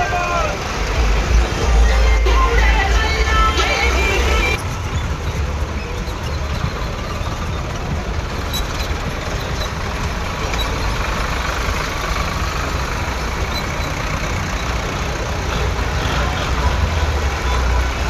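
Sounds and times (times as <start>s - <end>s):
road noise: 0.0s - 18.0s
tractor engines rumbling: 0.0s - 18.0s.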